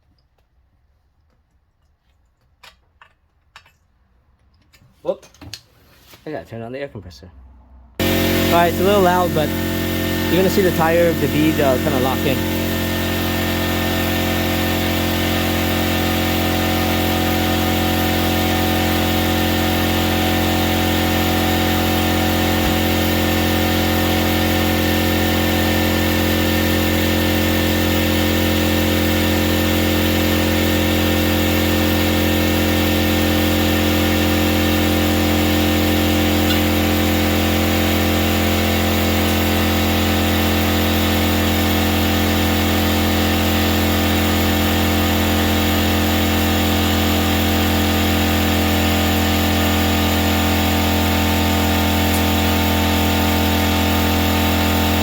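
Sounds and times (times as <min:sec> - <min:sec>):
air compressor motor running: 0:08.0 - 0:55.0.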